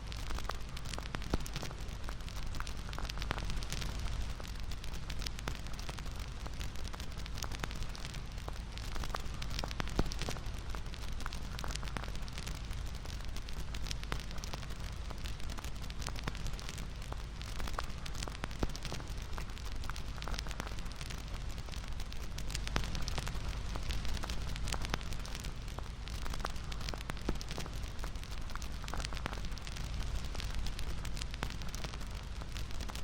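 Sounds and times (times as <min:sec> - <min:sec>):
fire popping and snapping: 0:00.1 - 0:33.0
wood fire crackling: 0:00.1 - 0:33.0.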